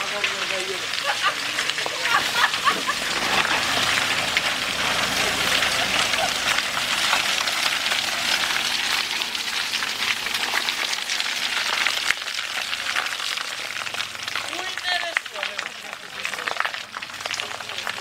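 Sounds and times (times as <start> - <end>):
tyres churning mud and stones: 0.0 - 18.0.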